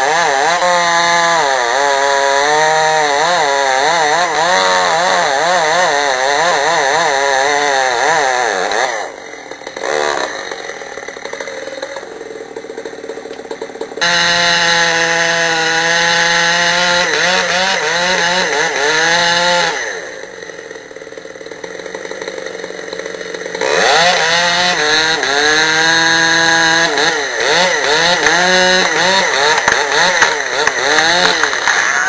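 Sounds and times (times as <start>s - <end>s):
chainsaw cutting through wood: 0.0s - 32.0s.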